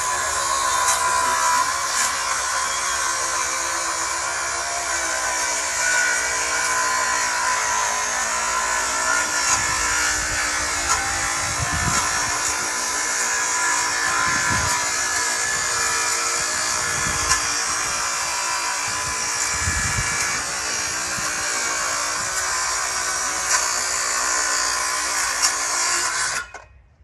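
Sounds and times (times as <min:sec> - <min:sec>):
power saw cutting wood: 0:00.0 - 0:26.7.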